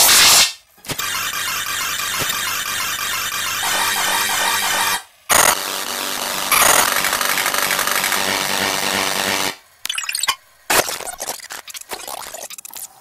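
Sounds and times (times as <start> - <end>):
distorted digital noise: 0.0 - 12.9.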